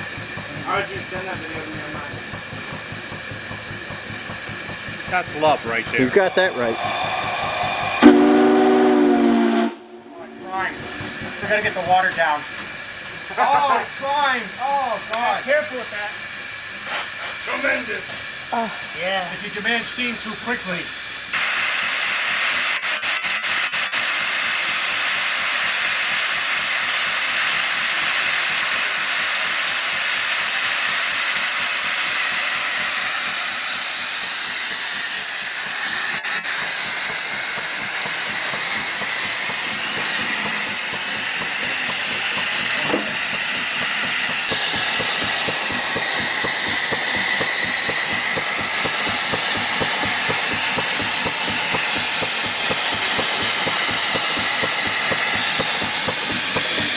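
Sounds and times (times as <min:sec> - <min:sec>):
steam engine exhaust beat: 0:00.0 - 0:56.9
steam hissing: 0:00.0 - 0:56.9.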